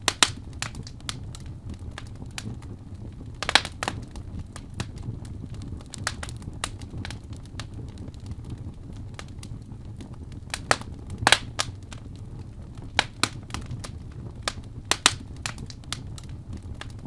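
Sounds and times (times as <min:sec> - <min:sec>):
fire crackles and pops: 0:00.0 - 0:17.0
fire low rumble: 0:00.0 - 0:17.0.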